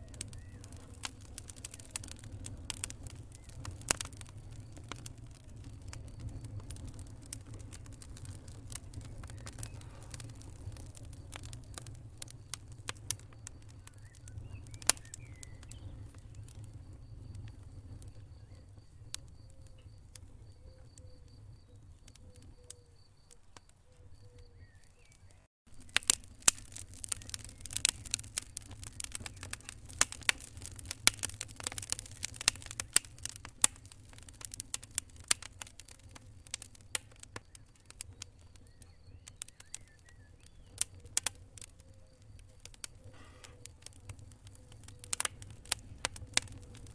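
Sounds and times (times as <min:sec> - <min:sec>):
low rumble of flames: 0:00.0 - 0:46.9
wood fire crackling and popping: 0:00.0 - 0:46.9.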